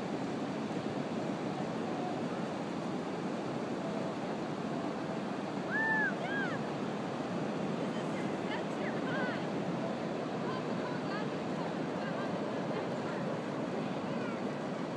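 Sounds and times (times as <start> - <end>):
ocean surf rushing: 0.0 - 14.9
wind: 0.0 - 14.9.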